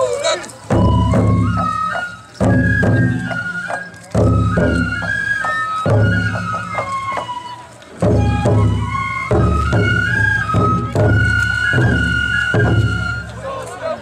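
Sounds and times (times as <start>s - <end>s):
transverse flute melody: 0.0s - 14.0s
deep drum beats: 0.6s - 13.2s.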